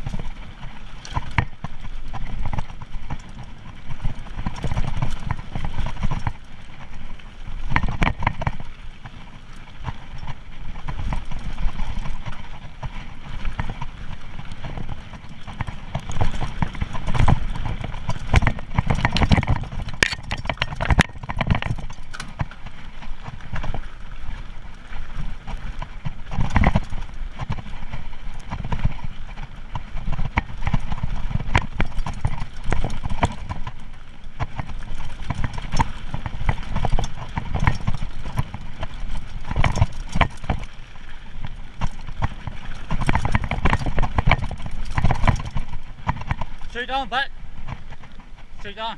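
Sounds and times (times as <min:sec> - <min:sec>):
bike knocking and rattling: 0:00.0 - 0:48.9
bike tyres rumbling on dirt: 0:00.0 - 0:48.9.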